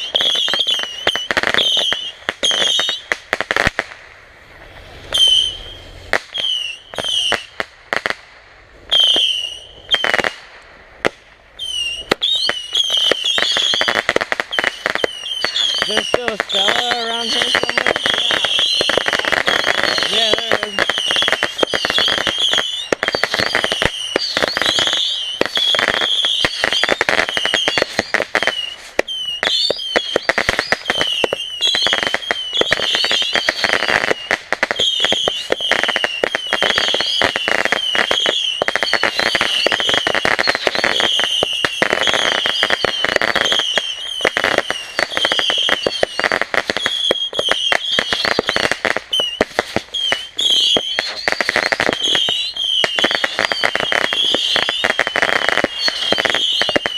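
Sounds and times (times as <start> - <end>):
fireworks crackling pops: 0.0 - 56.9
high chirping firework glides: 0.0 - 56.9.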